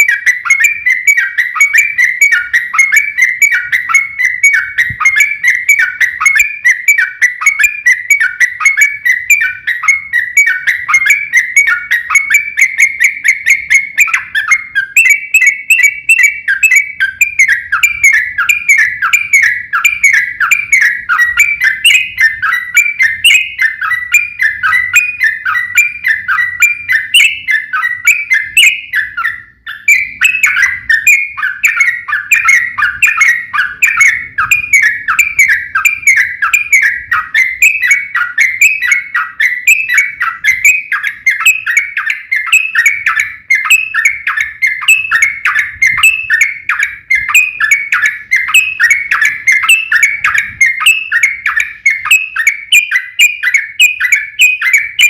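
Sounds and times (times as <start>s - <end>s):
bulbul singing whistled notes: 0.0s - 55.0s.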